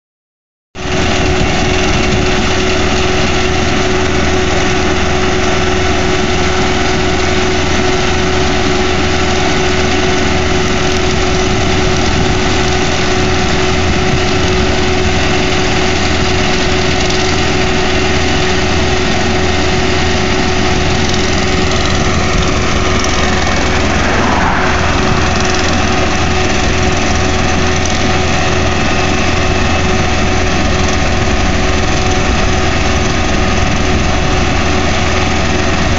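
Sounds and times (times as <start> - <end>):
diesel trencher engine running: 0.8 - 24.1, 24.8 - 35.9.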